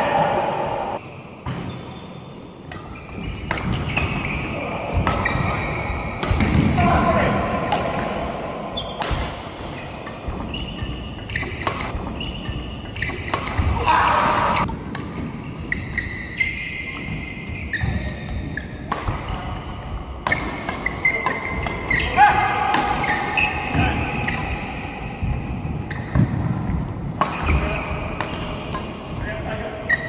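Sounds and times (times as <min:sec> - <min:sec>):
shoes squeaking on court: 0:01.0 - 0:06.6, 0:08.8 - 0:19.6, 0:20.3 - 0:22.2, 0:23.0 - 0:28.9
racket hitting shuttlecock: 0:02.7 - 0:29.1.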